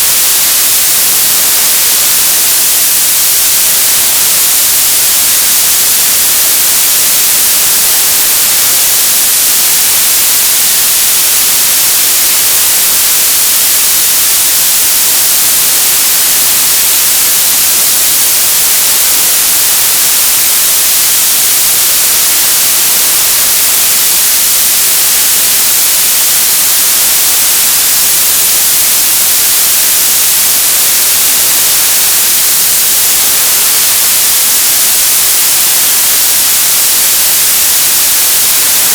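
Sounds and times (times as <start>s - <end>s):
television static hiss: 0.0s - 38.9s.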